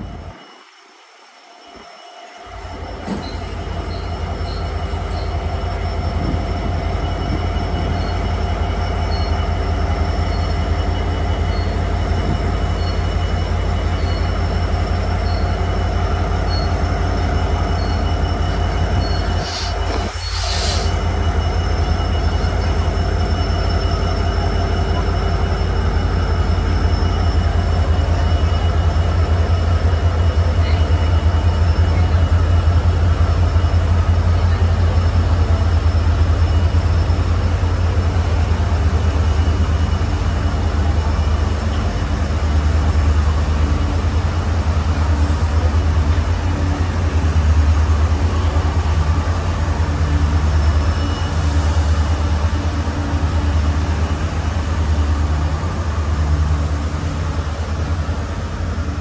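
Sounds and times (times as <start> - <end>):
wheels squealing on rails: 0.0 - 59.0
locomotive rumble: 2.5 - 59.0.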